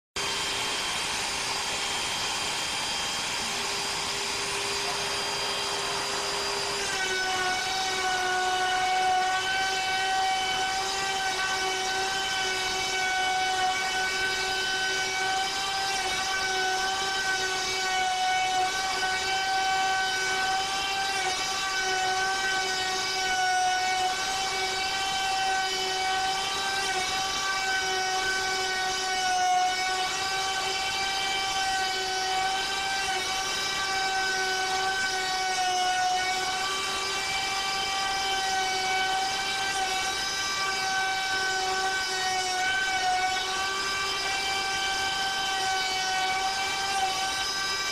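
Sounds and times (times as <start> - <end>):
router spindle whining: 0.2 - 47.9.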